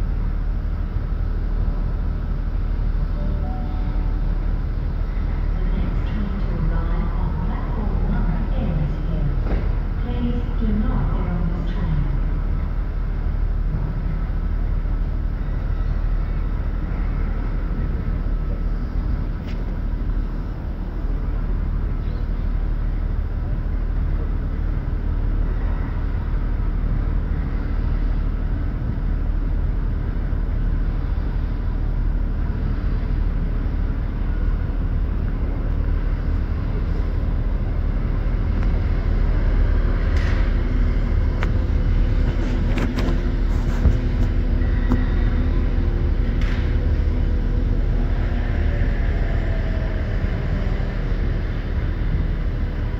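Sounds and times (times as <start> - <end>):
steam locomotive rumbling and hissing: 0.0 - 52.9.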